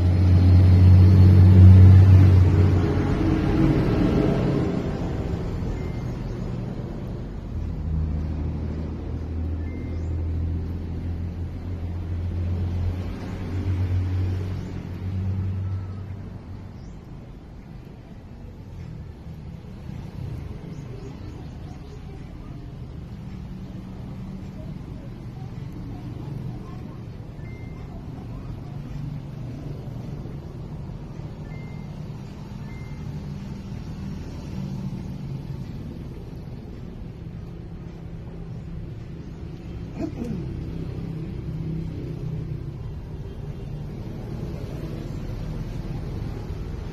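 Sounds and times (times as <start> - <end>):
low engine hum: 0.0 - 46.9.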